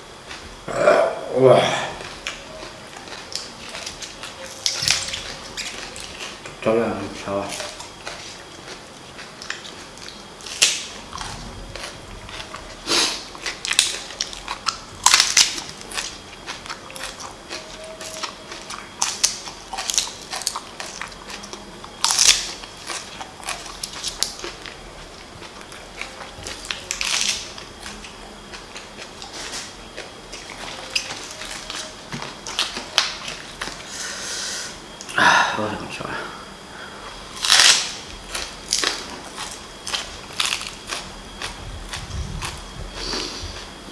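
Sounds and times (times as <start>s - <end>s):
crunchy chewing of green onion: 1.8s - 34.2s, 37.0s - 43.9s.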